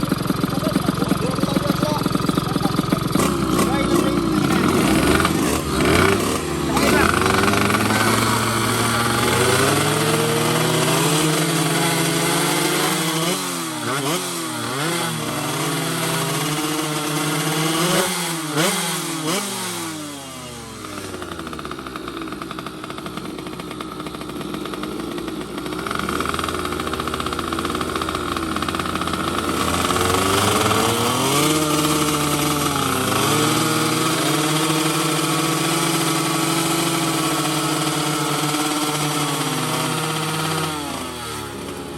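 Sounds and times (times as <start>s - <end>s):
racing motorcycles revving: 0.0s - 41.9s.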